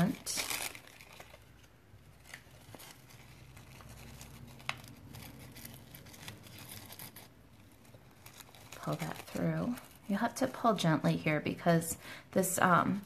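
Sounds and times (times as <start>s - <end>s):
tinsel and paper tag crinkling: 0.0s - 13.0s.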